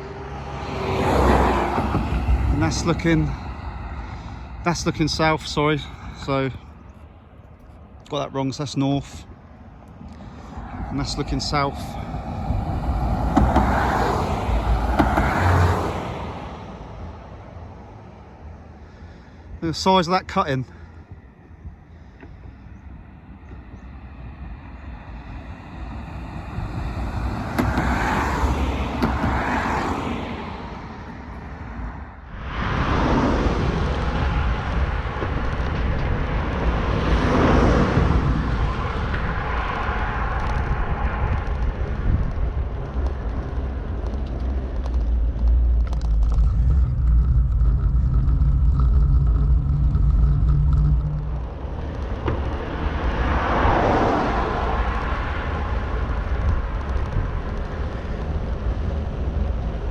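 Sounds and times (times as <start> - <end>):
steady engine drone: 0.0 - 59.9
vehicles passing: 0.0 - 59.9
wind rumble on microphone: 0.0 - 59.9.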